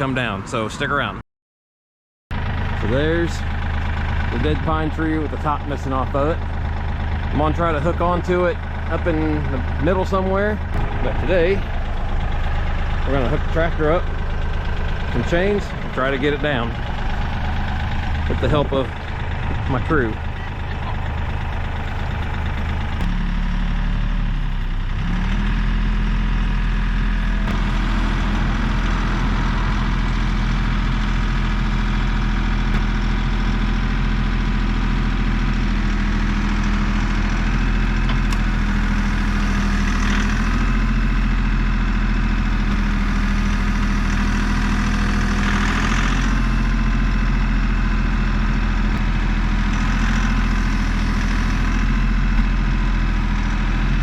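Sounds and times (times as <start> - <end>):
tractor diesel engine running: 2.3 - 54.0.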